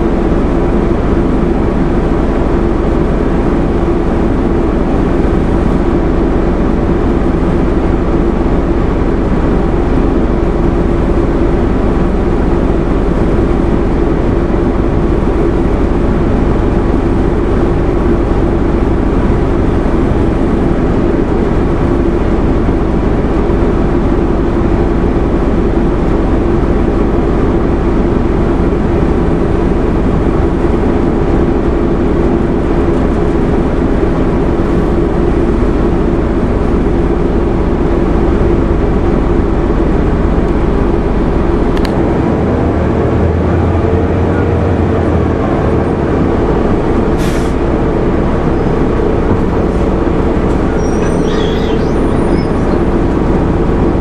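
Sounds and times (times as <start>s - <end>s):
bus engine droning: 0.0s - 54.0s.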